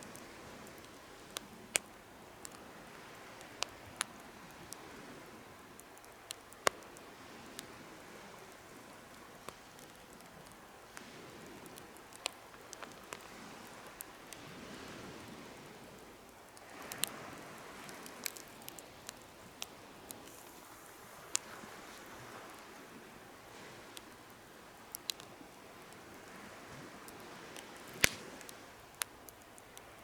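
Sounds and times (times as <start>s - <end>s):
campfire crackling and popping: 0.0s - 30.0s
soft hiss of burning: 0.0s - 30.0s.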